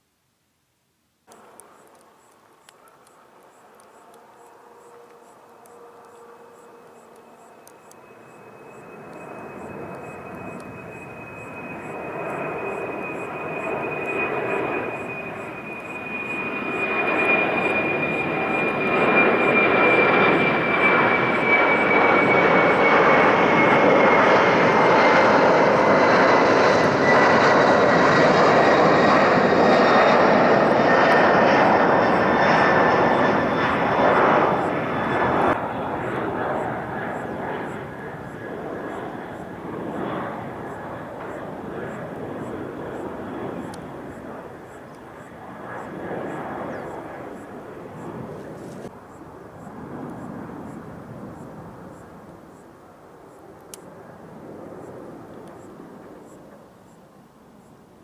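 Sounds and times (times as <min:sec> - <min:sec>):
jet engines roaring: 0:01.3 - 0:56.6.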